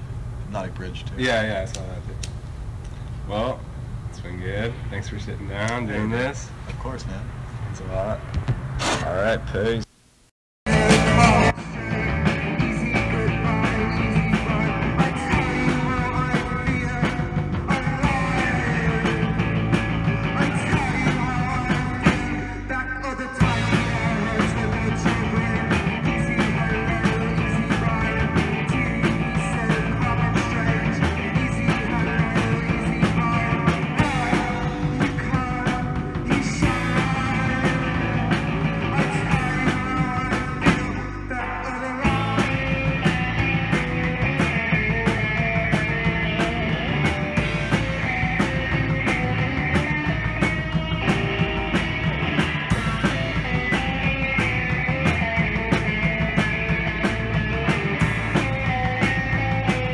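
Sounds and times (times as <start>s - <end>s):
drum kit: 10.7s - 22.7s, 23.4s - 59.9s
electric bass: 10.7s - 59.9s
electric guitar: 10.7s - 59.9s.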